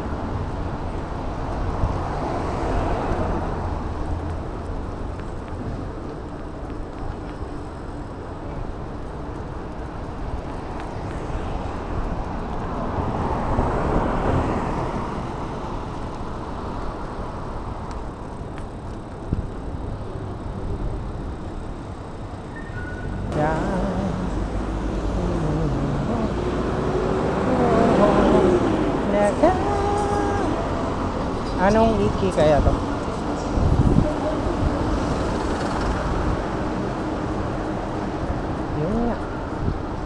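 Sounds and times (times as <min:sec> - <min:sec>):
road hum: 0:00.0 - 0:40.0
vehicles passing close by: 0:00.0 - 0:40.0.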